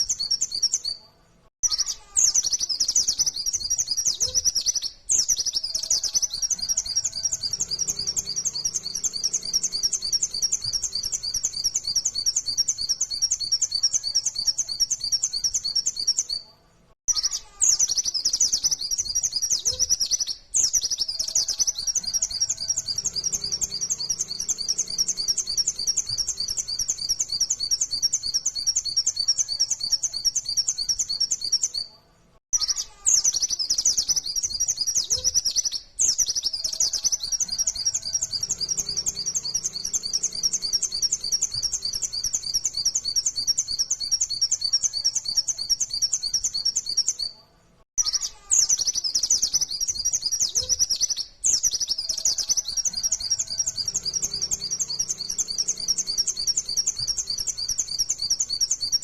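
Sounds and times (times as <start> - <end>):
bird singing rapid high chirps: 0.0 - 1.0, 1.6 - 16.4, 17.1 - 31.9, 32.5 - 47.4, 48.0 - 59.0.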